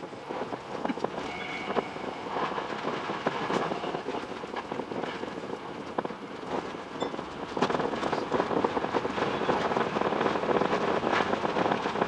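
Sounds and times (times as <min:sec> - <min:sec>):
electric train rumble and hiss: 0:00.0 - 0:12.0
wheels clicking over rails: 0:00.0 - 0:12.0.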